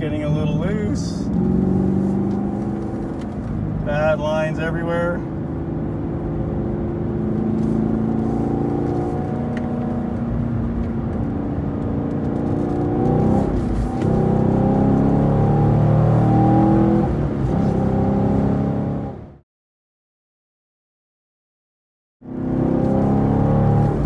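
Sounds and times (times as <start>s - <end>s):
car engine running hard: 0.0s - 19.4s, 22.3s - 24.0s.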